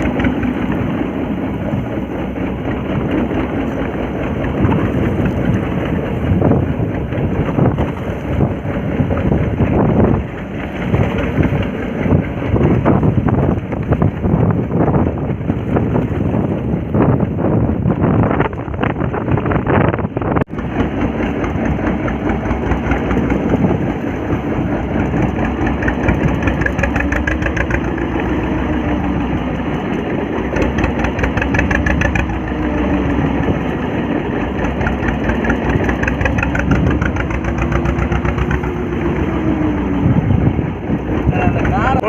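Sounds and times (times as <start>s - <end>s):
boat engine running: 0.0s - 42.0s.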